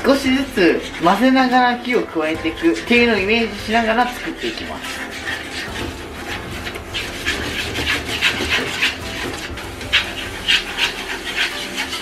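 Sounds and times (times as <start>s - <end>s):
chopsticks scraping frying pan: 0.0s - 12.0s.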